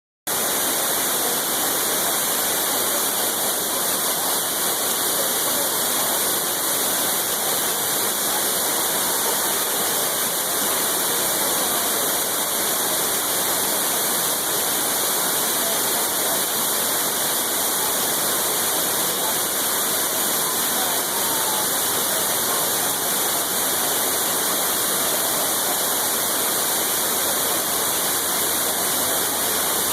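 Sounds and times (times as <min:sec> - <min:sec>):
waterfall rushing roar: 0:00.3 - 0:29.9.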